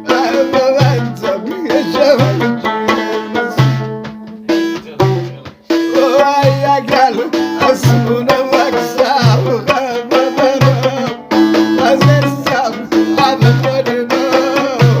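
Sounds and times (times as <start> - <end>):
hand drum beat: 0.0 - 15.0
melodic instrument line: 0.0 - 15.0.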